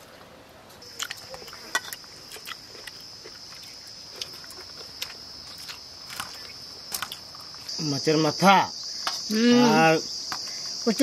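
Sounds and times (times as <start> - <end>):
high insect drone: 0.8 - 11.0.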